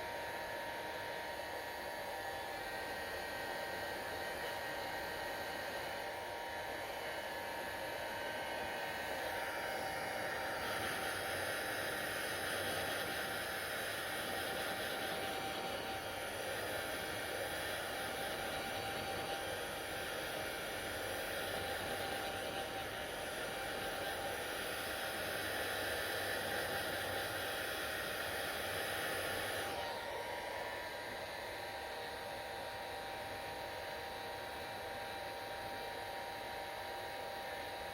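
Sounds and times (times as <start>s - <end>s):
hair dryer running: 0.0s - 37.9s.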